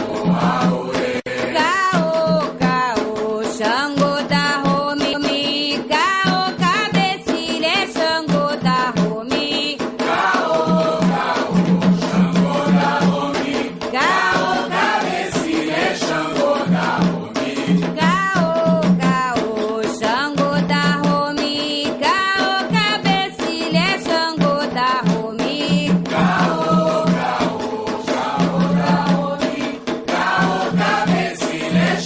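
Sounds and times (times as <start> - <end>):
hand drums beating: 0.0 - 32.0
voices singing a chant: 0.0 - 32.0.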